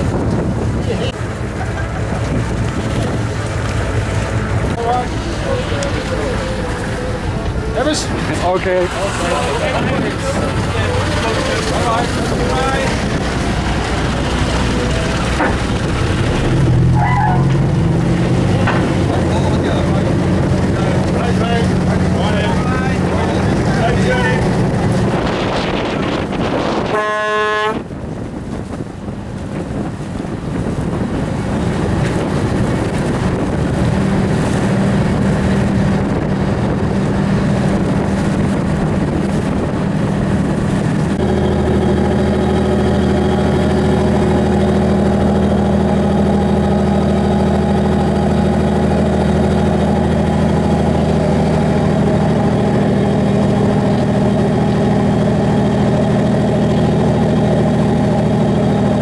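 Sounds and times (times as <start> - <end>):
motor boat engine running: 0.0 - 59.0
rushing water noise: 0.0 - 59.0.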